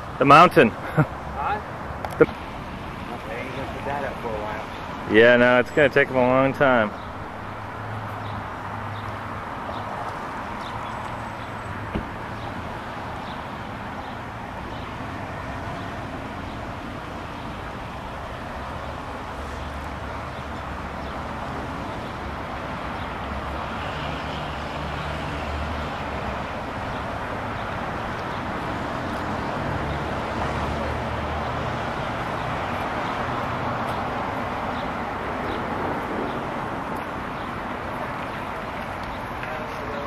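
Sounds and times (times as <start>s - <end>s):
passing vehicle engines humming: 0.0s - 40.0s
road traffic noise: 0.0s - 40.0s.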